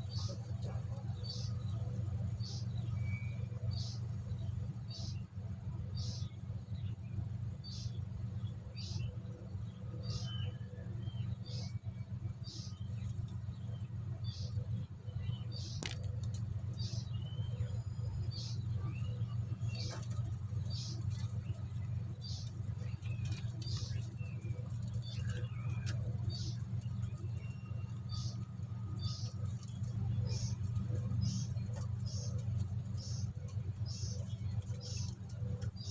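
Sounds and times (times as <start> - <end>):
low hum: 0.0 - 35.9.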